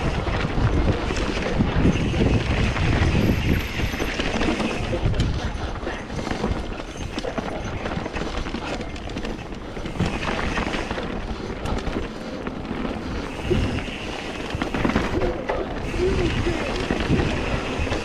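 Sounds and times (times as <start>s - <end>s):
bike clicks and knocks: 0.0s - 16.0s
wind rumble on microphone: 0.0s - 18.0s.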